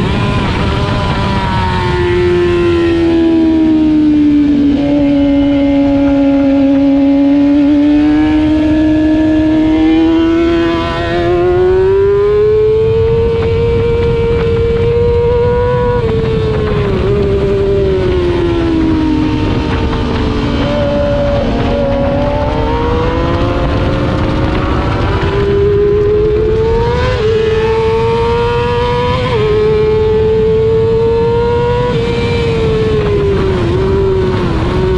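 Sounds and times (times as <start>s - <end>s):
racing motorcycle engine: 0.0s - 34.9s.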